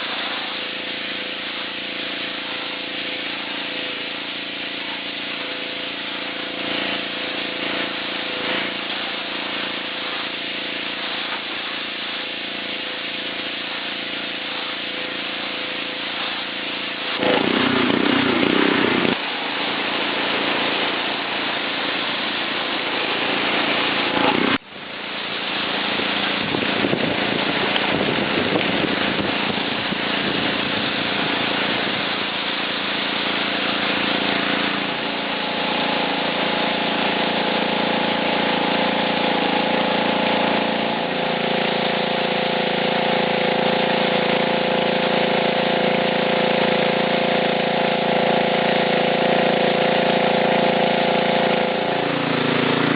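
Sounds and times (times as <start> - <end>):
pressure washer engine running: 0.0 - 52.9
water spray hissing on concrete: 0.0 - 52.9.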